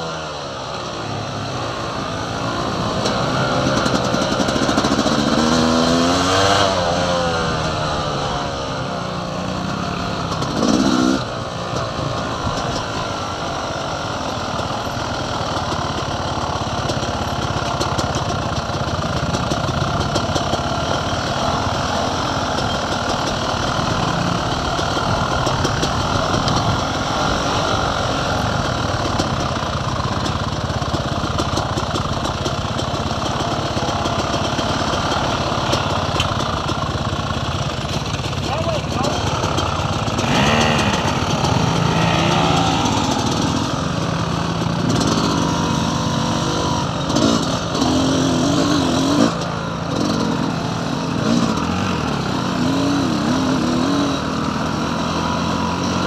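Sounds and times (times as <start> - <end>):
dirt bike engines running: 0.0 - 56.0.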